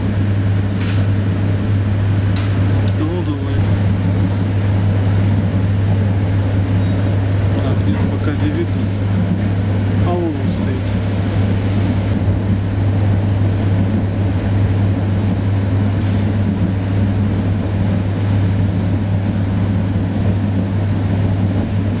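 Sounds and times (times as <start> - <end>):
train carriage hum and rumble: 0.0 - 22.0.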